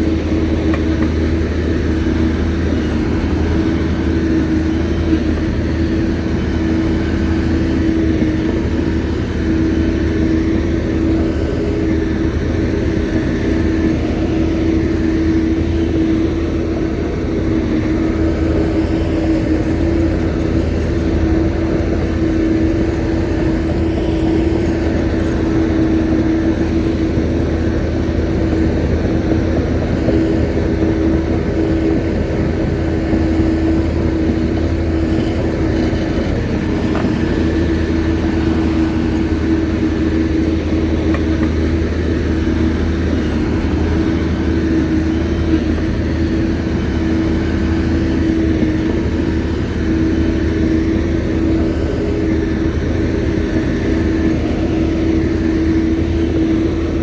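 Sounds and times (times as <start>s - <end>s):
bulldozer diesel engine humming: 0.0s - 57.0s.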